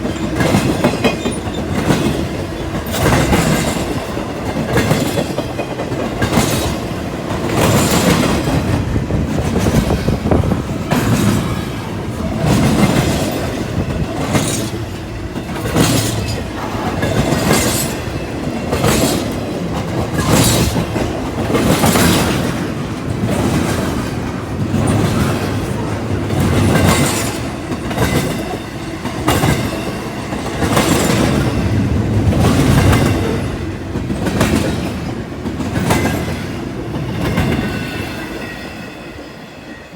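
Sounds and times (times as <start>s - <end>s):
train rumble: 0.0s - 39.9s
train wheels clacking: 0.0s - 39.9s.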